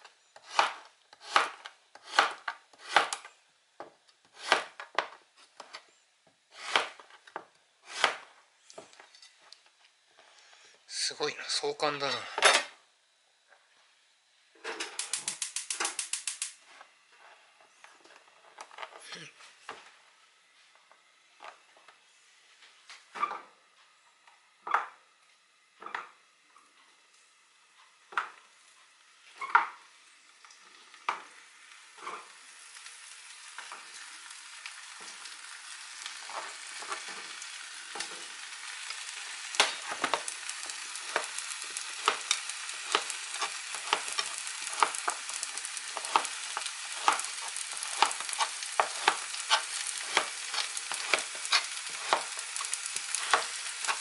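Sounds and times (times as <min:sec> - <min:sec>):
frying sizzle: 0:00.0 - 0:05.6, 0:06.3 - 0:54.0.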